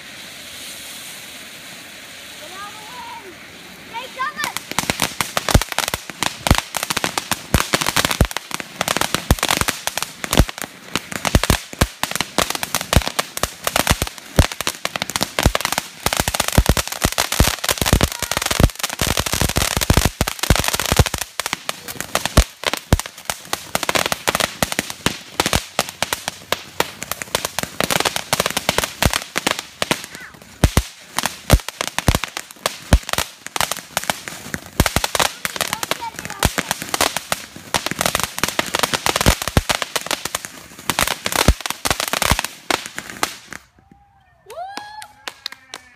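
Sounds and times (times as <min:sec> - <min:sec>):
fireworks hissing: 0:00.0 - 0:43.7
fireworks crackling pops: 0:00.0 - 0:45.9.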